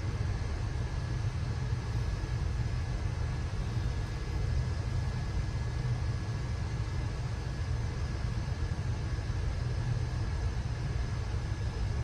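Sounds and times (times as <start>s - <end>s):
low room noise rumble: 0.0s - 12.0s.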